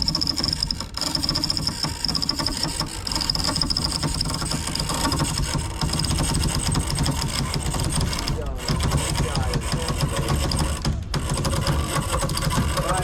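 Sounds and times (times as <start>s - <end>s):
ratcheting rigging gear clicking: 0.0s - 13.0s.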